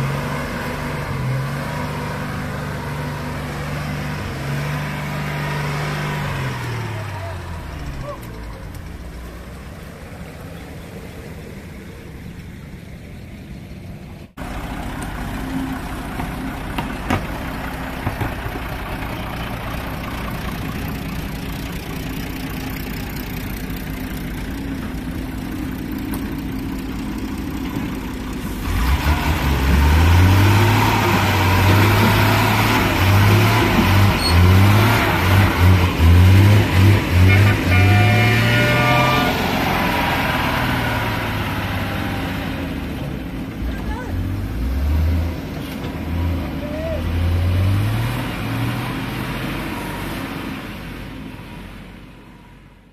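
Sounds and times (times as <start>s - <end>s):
truck diesel engine revving: 0.0s - 52.9s.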